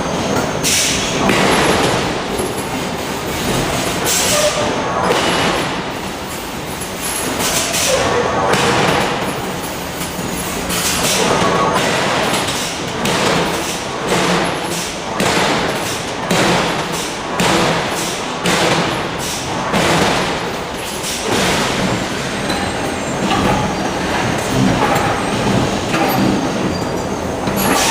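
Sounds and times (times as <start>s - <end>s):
machinery noise: 0.0s - 27.9s.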